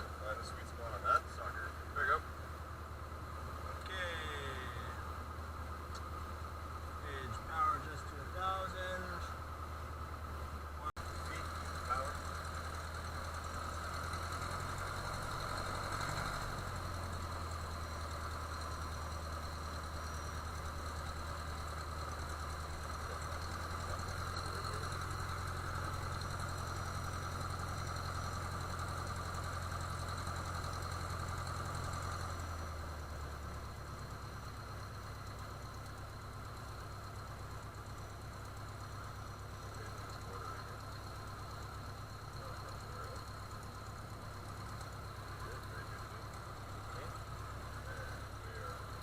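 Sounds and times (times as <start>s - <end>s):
propeller aircraft engine running: 0.0s - 49.0s.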